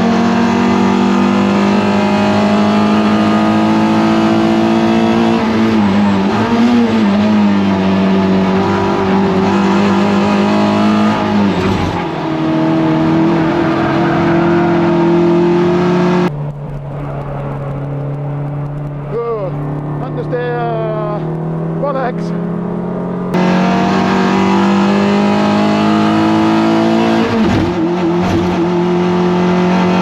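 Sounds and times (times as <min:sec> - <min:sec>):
race car engine at high revs: 0:00.0 - 0:30.0.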